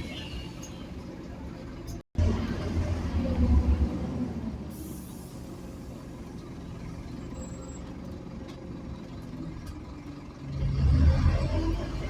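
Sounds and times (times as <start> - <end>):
diesel bus engine idling: 0.0 - 10.6.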